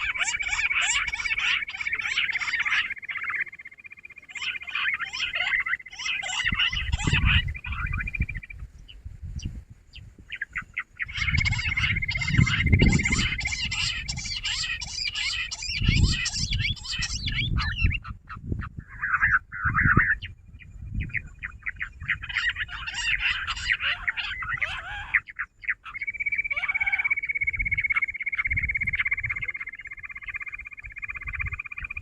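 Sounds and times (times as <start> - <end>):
quail chattering calls: 0.0 - 8.9, 10.3 - 32.0.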